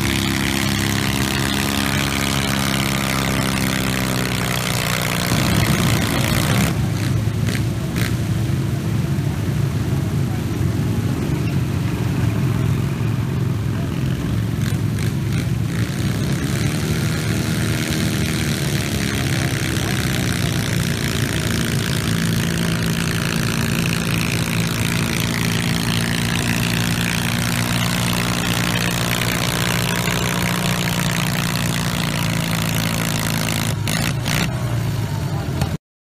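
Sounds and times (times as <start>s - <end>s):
garden tractor engine under load: 0.0s - 8.4s, 11.2s - 35.8s.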